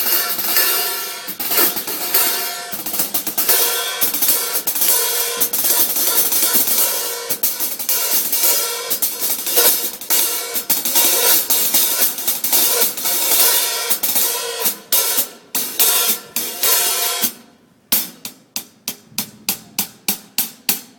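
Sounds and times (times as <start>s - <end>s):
drum kit playing: 0.0s - 20.9s
hi-hat and cymbal wash: 0.0s - 20.9s.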